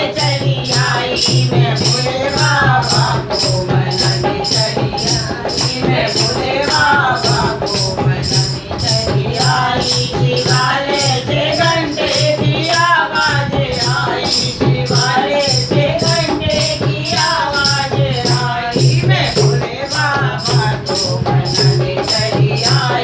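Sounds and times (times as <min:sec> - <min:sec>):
rattling hand percussion: 0:00.0 - 0:23.0
women singing: 0:00.0 - 0:23.0.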